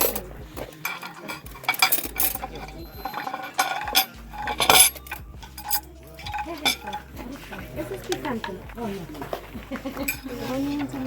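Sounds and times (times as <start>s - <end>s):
metal utensils clinking on dishes: 0.0s - 11.0s.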